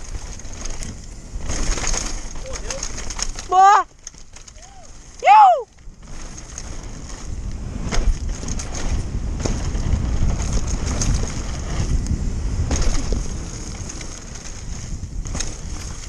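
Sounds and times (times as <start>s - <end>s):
bike clattering over bumps: 0.0s - 16.0s
tyres rumbling on dirt: 0.0s - 16.0s
wind buffeting microphone: 0.0s - 16.0s.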